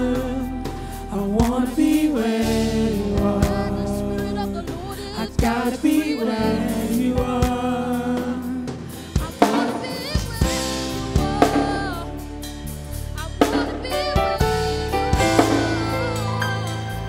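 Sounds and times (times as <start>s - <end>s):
woman singing: 0.0s - 12.3s, 13.1s - 17.0s
bass notes: 0.0s - 17.0s
drum kit: 0.0s - 17.0s
keyboard notes: 2.1s - 17.0s.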